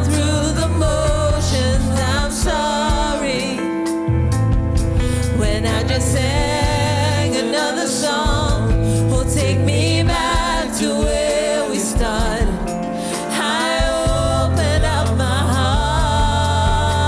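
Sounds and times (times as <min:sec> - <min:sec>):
person singing with vibrato: 0:00.0 - 0:04.3, 0:04.9 - 0:17.0
gospel band accompaniment: 0:00.0 - 0:17.0.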